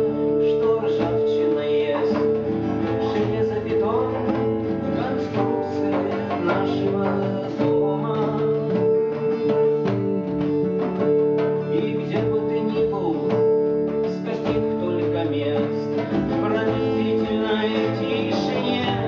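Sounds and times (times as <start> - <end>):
guitar strumming: 0.0 - 19.0.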